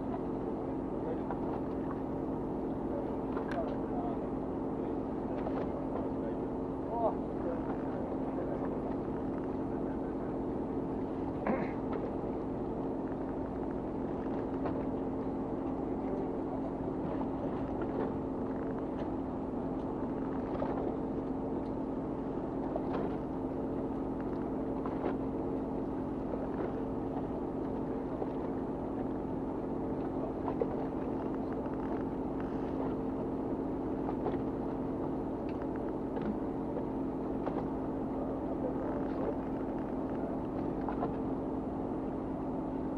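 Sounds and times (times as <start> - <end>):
boat engine humming: 0.0 - 42.9.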